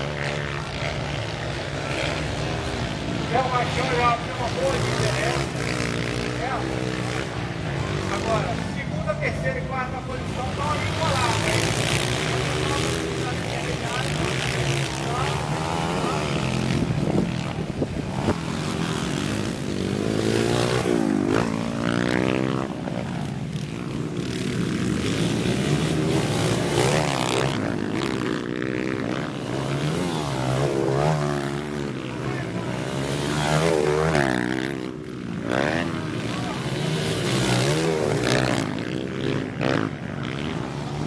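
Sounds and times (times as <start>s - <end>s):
dirt bikes racing past: 0.0s - 41.0s.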